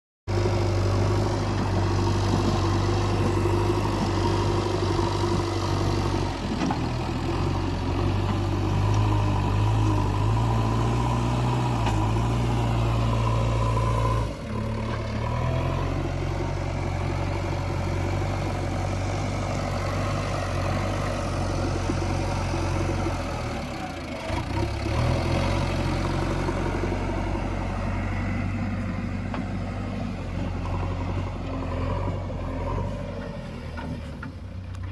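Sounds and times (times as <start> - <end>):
diesel engine running: 0.3 - 34.9.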